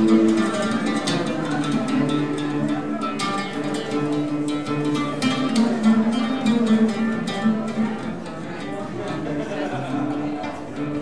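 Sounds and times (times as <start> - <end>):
plucked-string melody: 0.0 - 11.0.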